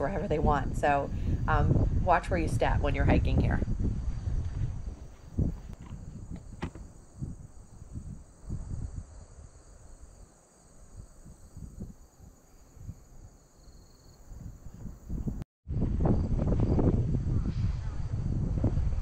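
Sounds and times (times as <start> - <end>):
wind buffeting microphone: 0.0 - 9.6, 10.8 - 13.3, 14.1 - 19.0.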